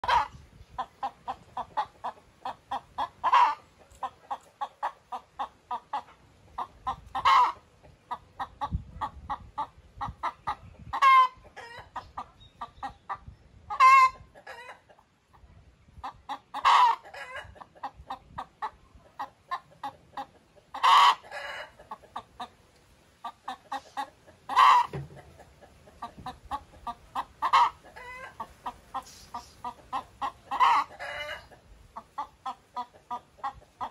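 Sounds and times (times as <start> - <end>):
hen clucking: 0.0 - 33.9.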